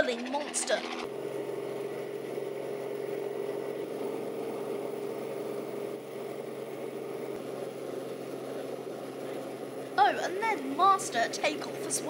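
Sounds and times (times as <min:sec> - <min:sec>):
helicopter engine and rotors: 0:00.0 - 0:12.0.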